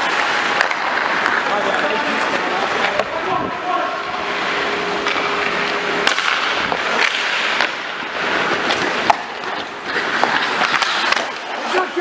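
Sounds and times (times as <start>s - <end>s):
skate blades scraping ice: 0.0s - 3.2s, 4.0s - 12.0s
hockey sticks and puck clacking: 0.0s - 3.4s, 4.0s - 12.0s.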